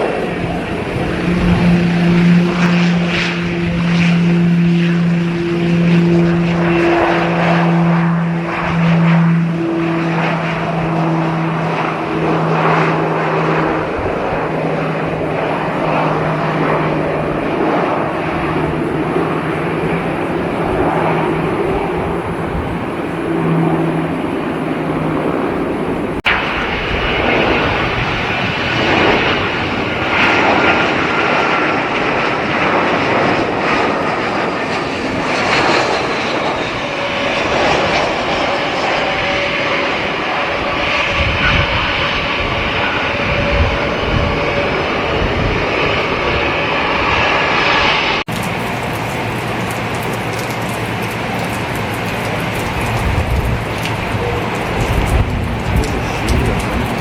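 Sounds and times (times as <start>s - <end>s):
airliner engines roaring: 0.0s - 57.0s.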